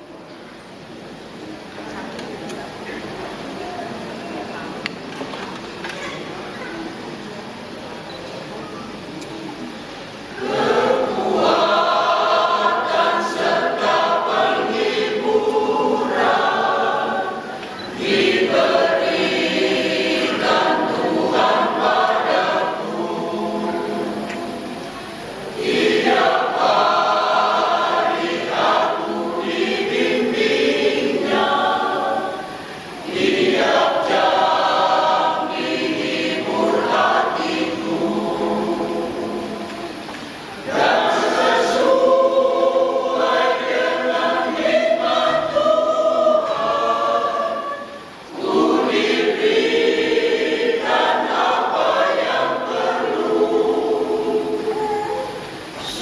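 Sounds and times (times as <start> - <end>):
church choir singing: 10.2 - 56.0.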